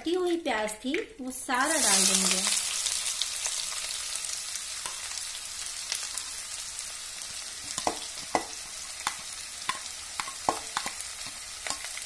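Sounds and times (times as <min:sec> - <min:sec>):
onions sizzling in hot fat: 0:00.0 - 0:12.0.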